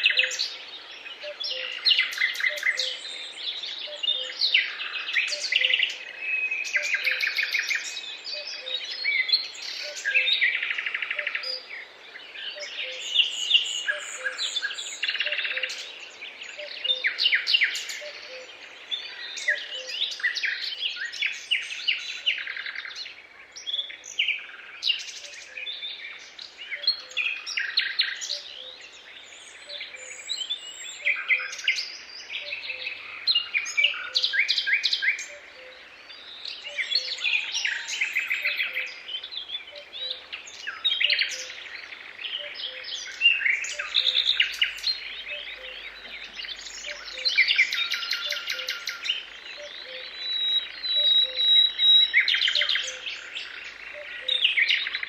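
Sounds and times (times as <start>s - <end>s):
songbirds singing and calling: 0.0s - 55.0s.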